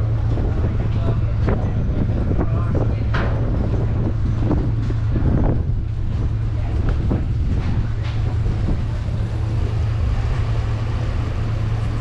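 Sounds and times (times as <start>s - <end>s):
low engine hum: 0.0s - 12.0s
wind on microphone: 0.0s - 12.0s.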